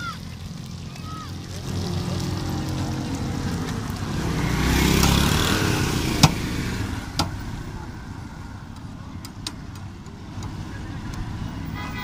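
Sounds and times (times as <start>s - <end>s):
motorcycle passing: 0.0s - 12.0s.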